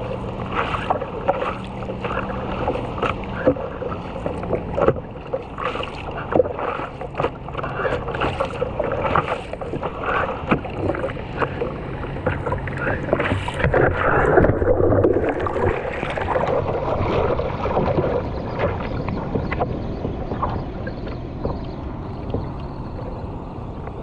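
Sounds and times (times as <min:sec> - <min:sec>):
water splashing against surfboard: 0:00.0 - 0:23.2.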